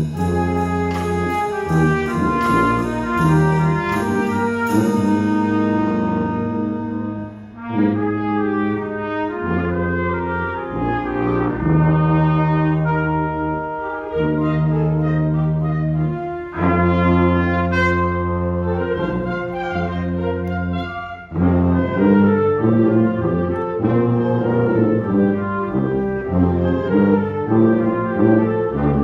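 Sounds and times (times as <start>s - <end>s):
brass chords: 0.0s - 29.0s
concert band playing: 0.0s - 29.0s.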